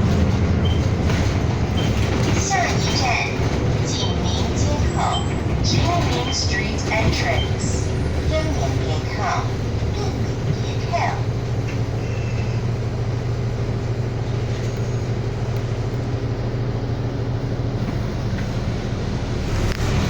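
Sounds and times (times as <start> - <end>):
bus engine droning: 0.0 - 20.0
road and cabin noise: 0.0 - 20.0.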